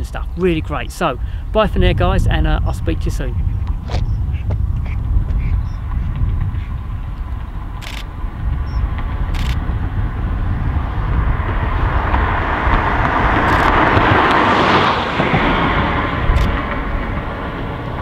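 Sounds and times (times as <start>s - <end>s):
car passing: 0.0s - 18.0s
road traffic rumble: 0.0s - 18.0s.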